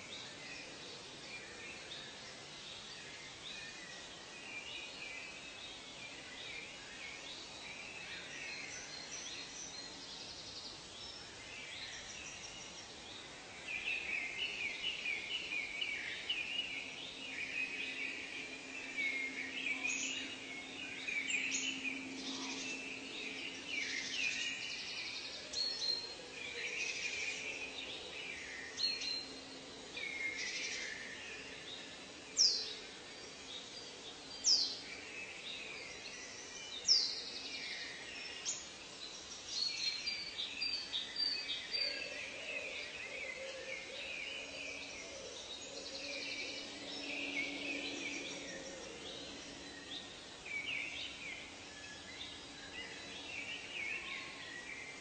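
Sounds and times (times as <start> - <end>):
birds chirping: 0.0 - 55.0
steady background hiss: 0.0 - 55.0.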